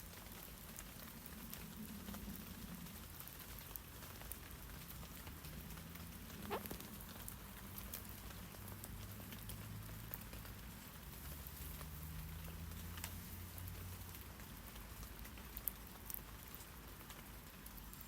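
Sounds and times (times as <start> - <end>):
rain pattering on leaves: 0.0 - 18.0.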